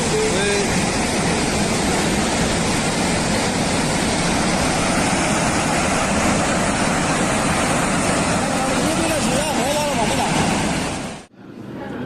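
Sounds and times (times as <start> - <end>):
floodwater rushing: 0.0 - 11.3.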